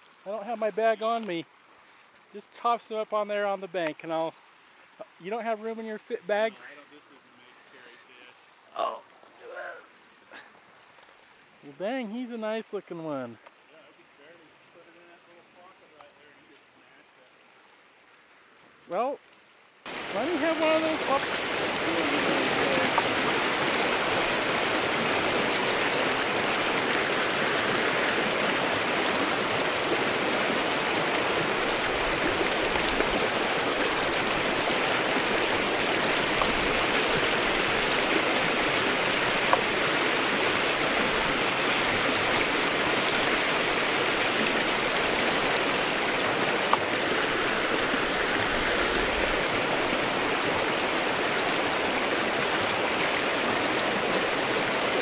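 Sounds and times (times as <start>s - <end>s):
creek water rushing over stones: 0.0s - 55.0s.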